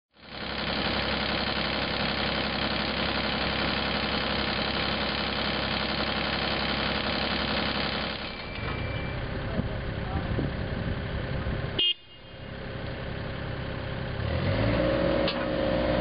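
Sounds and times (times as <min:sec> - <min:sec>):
diesel engine running: 0:00.1 - 0:16.0.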